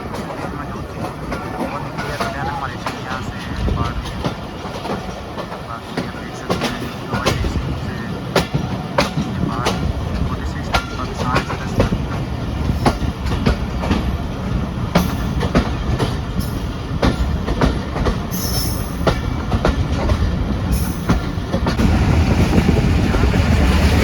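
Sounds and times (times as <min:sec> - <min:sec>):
wheels clicking over rail joints: 0:00.0 - 0:21.9
train rumbling on rails: 0:00.0 - 0:24.0.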